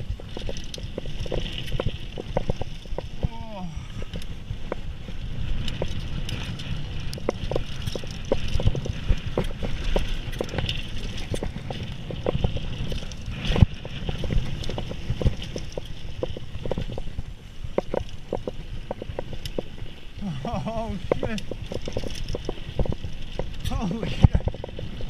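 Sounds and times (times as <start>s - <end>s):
bike knocks and rattles: 0.0s - 25.0s
tyres rumbling on dirt: 0.0s - 25.0s.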